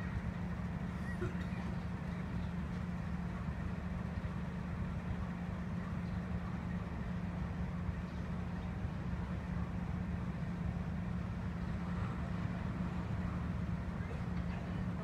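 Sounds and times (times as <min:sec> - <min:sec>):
locomotive idling hum: 0:00.0 - 0:15.0.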